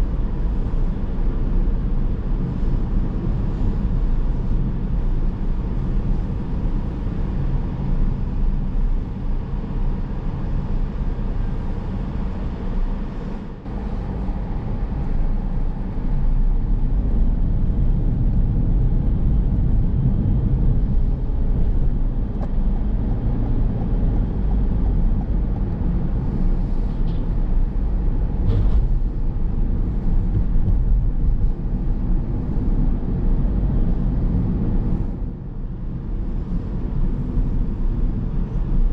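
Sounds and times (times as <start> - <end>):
tyres rumbling on road: 0.0 - 38.9.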